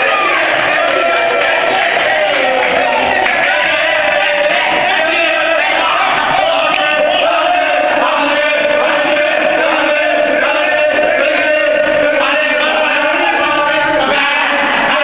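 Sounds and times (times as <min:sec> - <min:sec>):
young men chanting and singing: 0:00.0 - 0:15.0.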